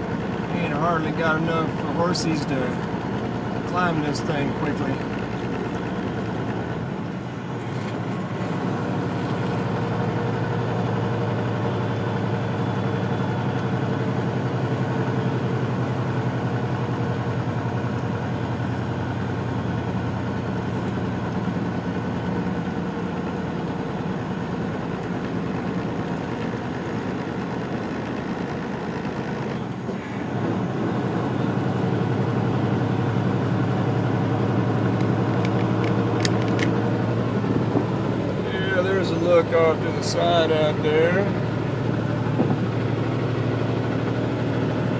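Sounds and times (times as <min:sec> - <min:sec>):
truck diesel engine droning: 0:00.0 - 0:44.9.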